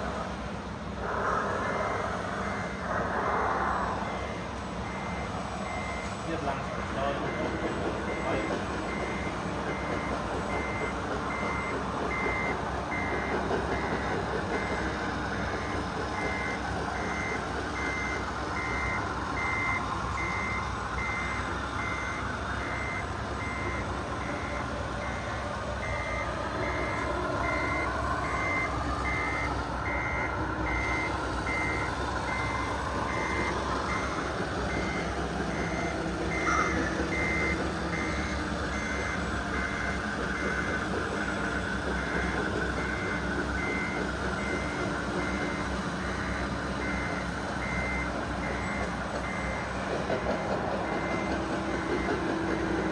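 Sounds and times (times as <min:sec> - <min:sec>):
reversing beeper: 0:01.0 - 0:52.9.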